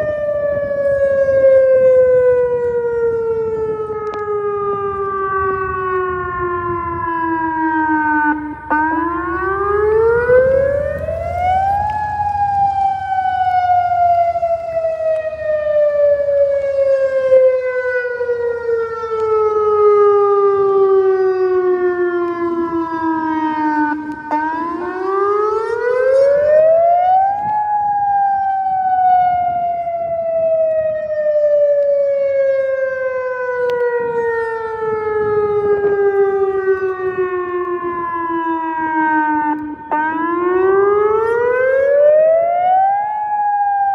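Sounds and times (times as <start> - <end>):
tornado siren wailing: 0.0 - 43.9.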